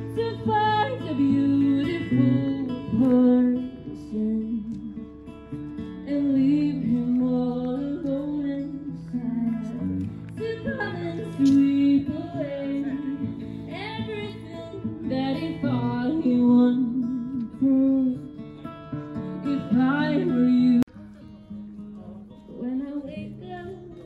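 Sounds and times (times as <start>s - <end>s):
woman singing: 0.0s - 5.2s, 6.0s - 18.4s, 19.3s - 20.9s, 22.5s - 24.0s
acoustic guitar: 0.0s - 24.0s.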